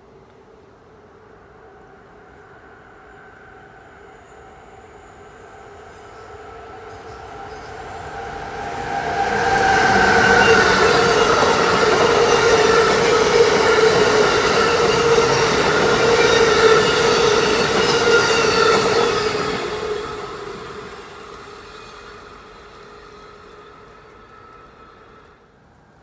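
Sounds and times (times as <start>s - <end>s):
electric locomotive whine: 0.0s - 26.0s
rush of passing train cars: 0.0s - 26.0s.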